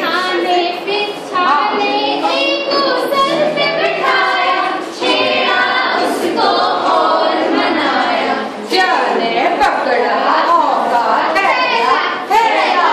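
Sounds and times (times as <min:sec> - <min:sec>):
women singing in unison: 0:00.0 - 0:12.9.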